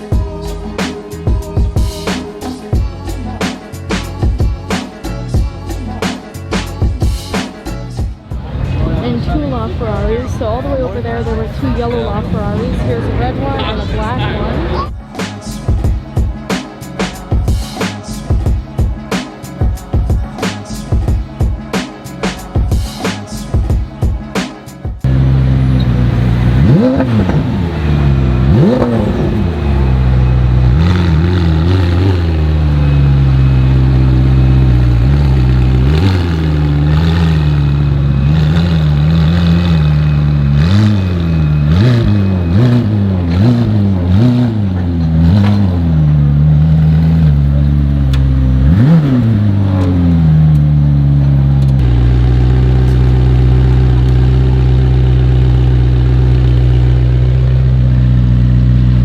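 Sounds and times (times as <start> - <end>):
car engine idling and revving: 0.0 - 24.4, 25.0 - 59.0.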